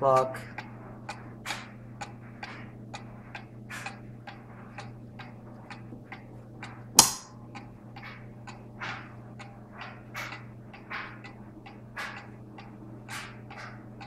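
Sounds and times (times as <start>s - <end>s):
clock ticking: 0.0s - 14.0s.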